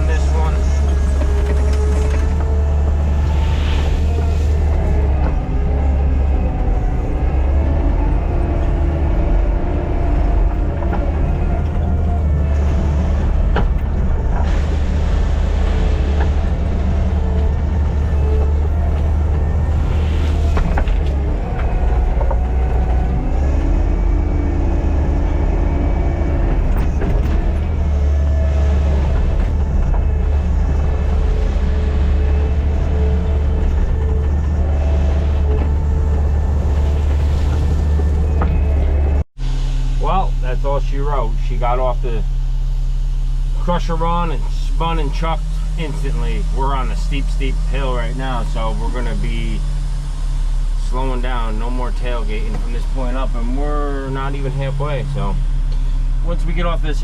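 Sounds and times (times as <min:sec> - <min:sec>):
diesel engine droning under load: 0:00.0 - 0:57.0
whining tones: 0:00.0 - 0:57.0.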